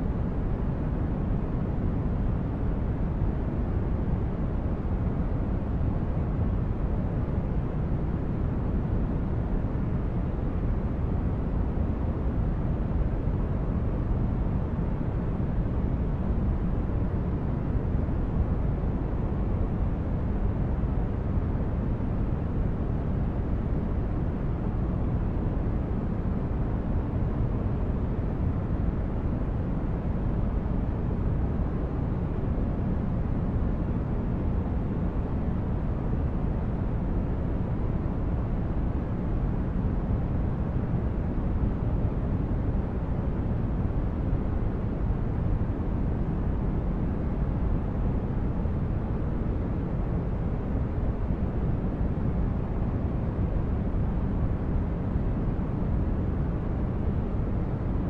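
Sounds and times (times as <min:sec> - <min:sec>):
white noise with low rumble: 0:00.0 - 0:58.0.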